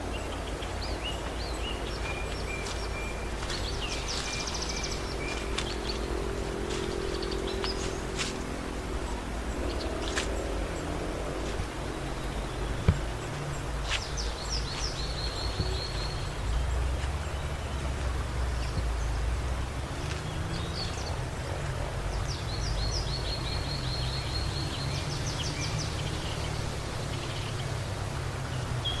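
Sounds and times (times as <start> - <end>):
steady low rumble: 0.0 - 28.9
songbird singing: 0.0 - 29.0.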